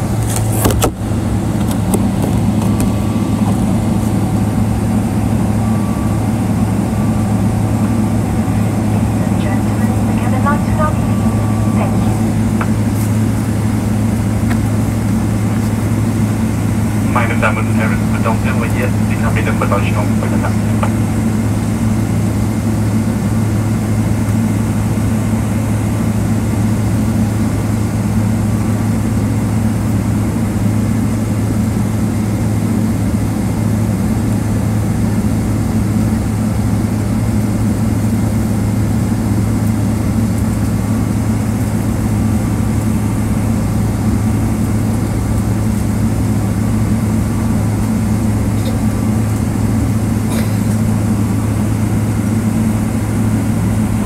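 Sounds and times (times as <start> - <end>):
aircraft cabin hum: 0.0 - 54.0.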